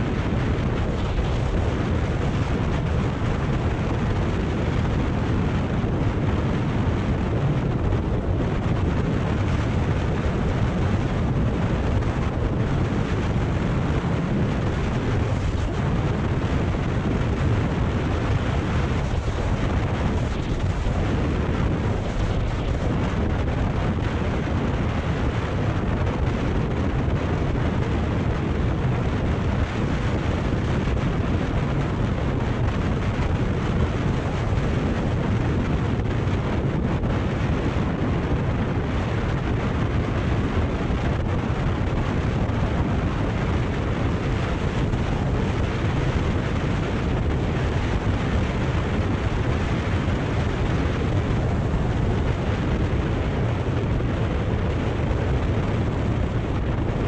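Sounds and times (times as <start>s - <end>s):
wind rush over microphone: 0.0s - 57.0s.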